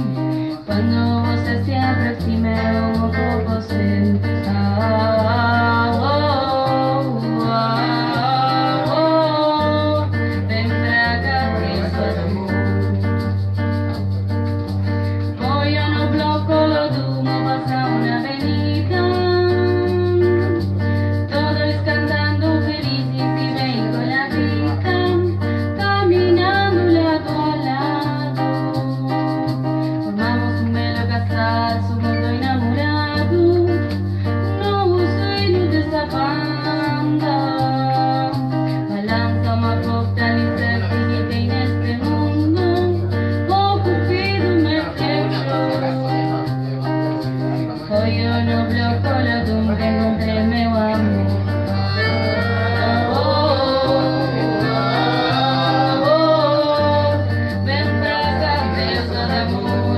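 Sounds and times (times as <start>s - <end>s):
person singing: 0.0s - 13.3s, 15.3s - 46.4s, 47.6s - 59.9s
accordion: 0.0s - 59.9s
acoustic guitar: 0.0s - 59.9s
bass line: 0.0s - 59.9s.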